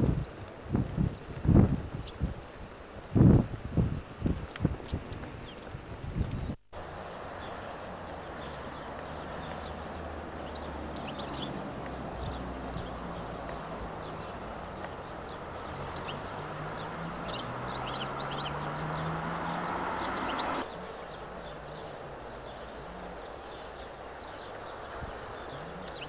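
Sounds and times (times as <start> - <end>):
birds chirping: 0.0 - 26.0
steady background noise: 0.0 - 26.0.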